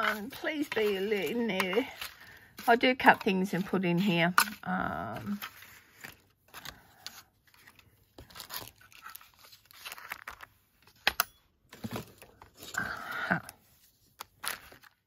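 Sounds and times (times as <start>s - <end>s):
paper rustling and crinkling: 0.0s - 11.0s, 11.8s - 15.0s.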